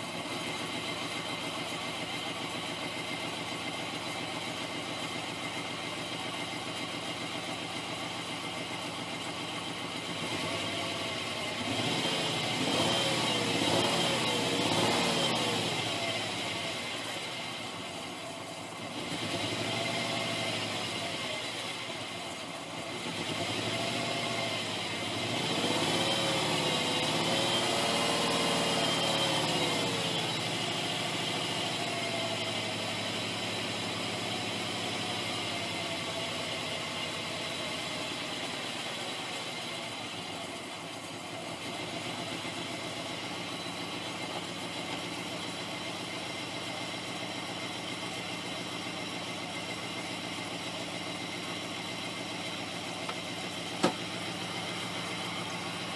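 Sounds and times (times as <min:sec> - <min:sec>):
car engine revving and idling: 0:00.0 - 0:55.9.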